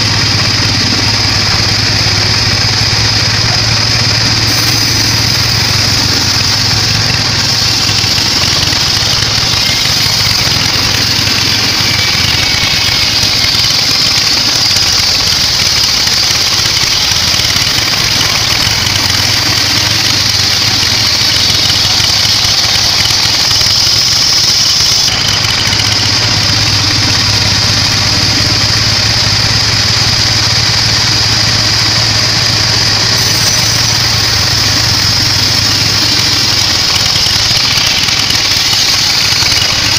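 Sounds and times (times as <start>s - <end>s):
bandsaw sawing through log: 0.0s - 39.9s.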